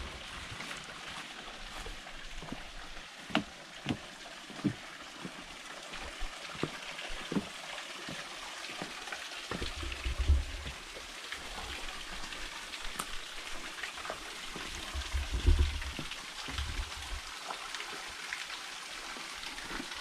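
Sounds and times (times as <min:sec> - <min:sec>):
running water hiss: 0:00.0 - 0:20.0.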